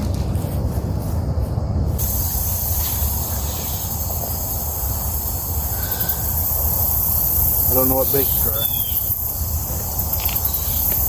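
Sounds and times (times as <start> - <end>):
continuous low rumble: 0.0 - 11.0
insects trilling: 0.0 - 11.0.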